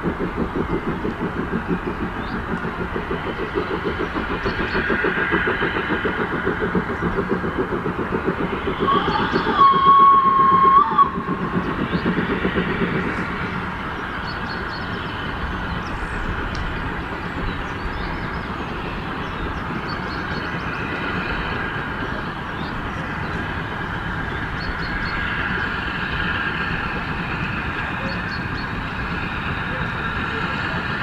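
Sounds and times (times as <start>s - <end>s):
steam train rumbling: 0.0s - 31.0s.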